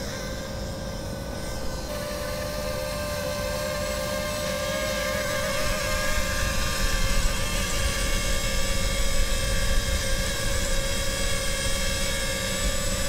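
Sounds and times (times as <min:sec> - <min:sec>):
drone propeller whine: 0:00.0 - 0:13.0.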